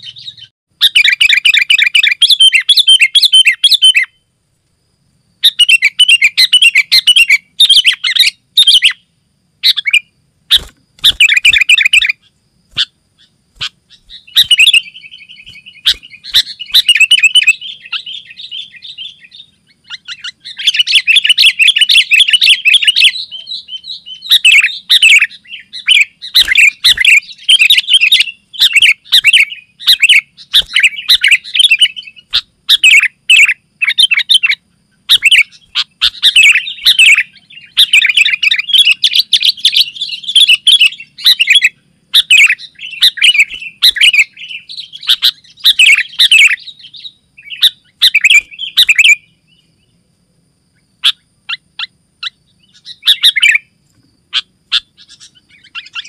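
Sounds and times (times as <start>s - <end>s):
bulbul singing: 0.0s - 4.3s, 5.4s - 50.0s, 50.7s - 56.0s.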